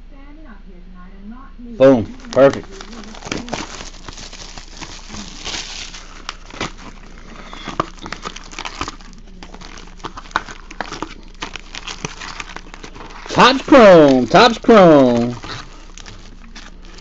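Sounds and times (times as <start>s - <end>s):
card packs clicking and knocking: 2.0s - 17.0s
plastic shrink-wrap crinkling and tearing: 2.0s - 17.0s.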